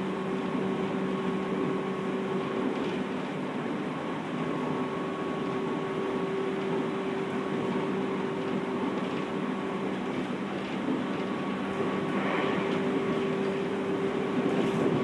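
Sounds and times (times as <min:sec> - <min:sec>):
train motor hum: 0:00.0 - 0:15.0
train wheels rumbling on rail: 0:00.0 - 0:15.0.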